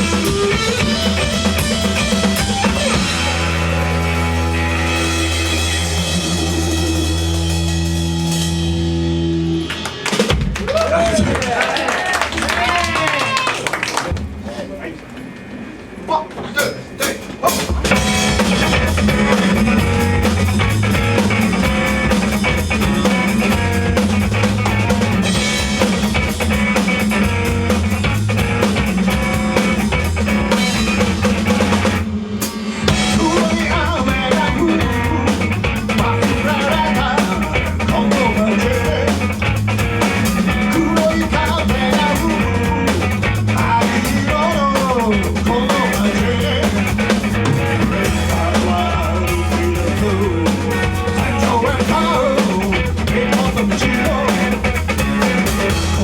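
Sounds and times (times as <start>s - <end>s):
live band music: 0.0s - 10.6s, 17.0s - 56.0s.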